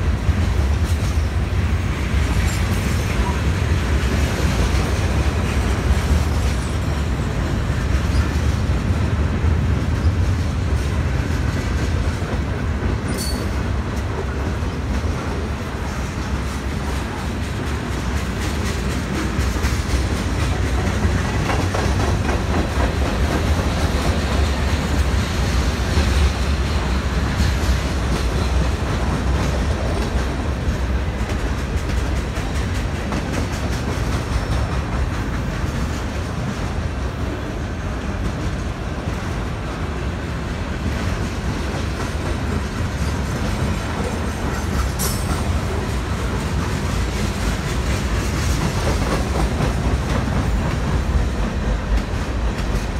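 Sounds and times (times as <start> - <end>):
freight train cars rolling: 0.0 - 52.9
wheels clacking over rail joints: 0.1 - 39.5, 40.7 - 52.9.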